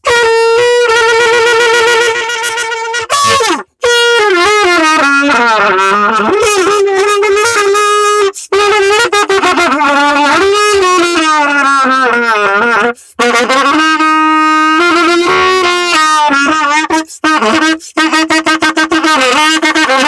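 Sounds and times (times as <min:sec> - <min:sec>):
solo trumpet playing: 0:00.0 - 0:20.0.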